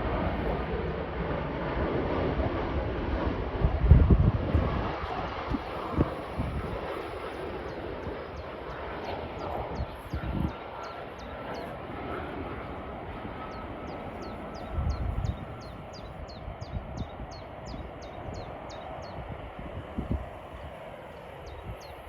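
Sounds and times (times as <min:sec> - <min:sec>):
jet engine rushing: 0:00.0 - 0:22.0
wind gusting on microphone: 0:00.0 - 0:22.0.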